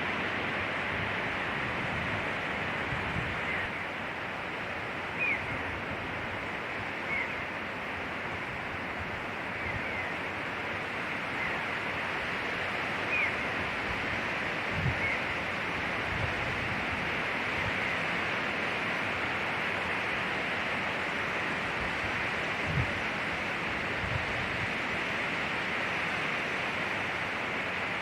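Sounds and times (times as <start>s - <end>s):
wind through pine trees: 0.0s - 28.0s.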